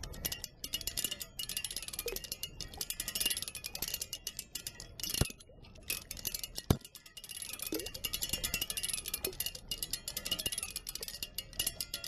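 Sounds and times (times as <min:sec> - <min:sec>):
flowing water: 0:00.0 - 0:12.0
water wheel ticking and clinking: 0:00.0 - 0:12.0.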